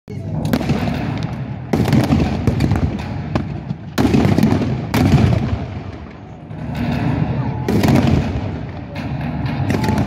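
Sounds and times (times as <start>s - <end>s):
low rolling noise: 0.2s - 10.0s
pyrotechnic blasts: 0.2s - 10.0s.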